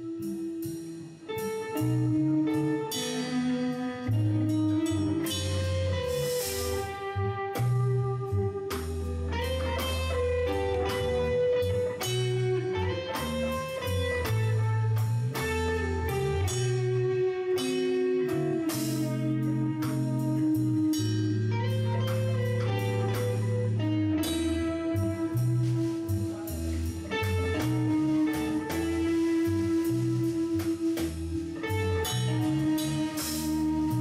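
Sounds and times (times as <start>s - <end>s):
drum kit and cymbals: 0.0s - 34.0s
electric bass low notes: 0.0s - 34.0s
electric guitar lines: 0.0s - 34.0s.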